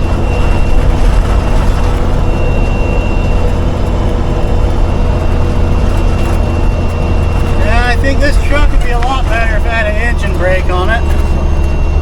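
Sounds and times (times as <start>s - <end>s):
high drivetrain whine: 0.0s - 12.0s
truck engine droning: 0.0s - 12.0s.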